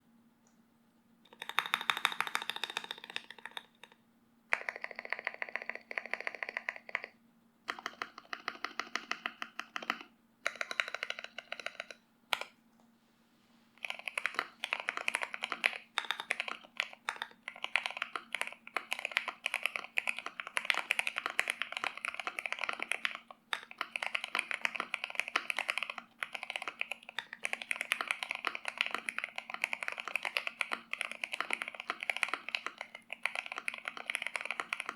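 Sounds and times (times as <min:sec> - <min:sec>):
faint steady hum: 0:00.0 - 0:34.9
typing on mechanical keyboard: 0:01.3 - 0:12.5, 0:13.8 - 0:34.9.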